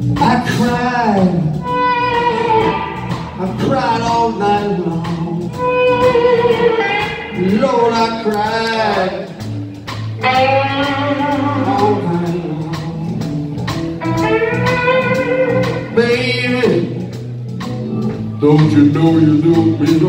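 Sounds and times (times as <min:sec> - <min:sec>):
blues-rock band playing: 0:00.0 - 0:20.0
held guitar lead notes: 0:00.0 - 0:20.0.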